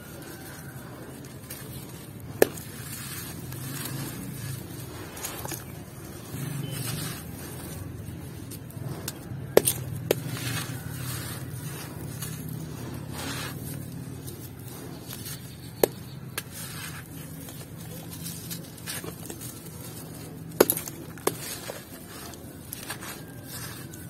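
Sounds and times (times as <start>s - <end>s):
crunchy chunks crumbling: 0.0s - 24.0s.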